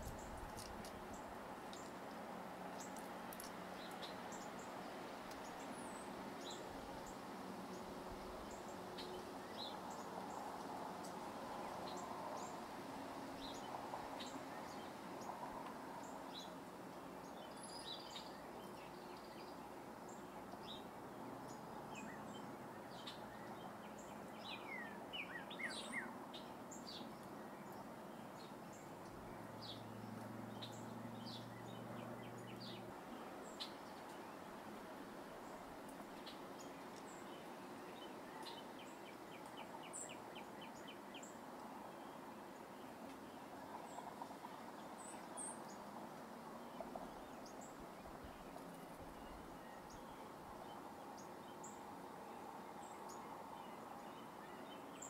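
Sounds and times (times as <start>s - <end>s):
steady outdoor background noise: 0.0s - 55.0s.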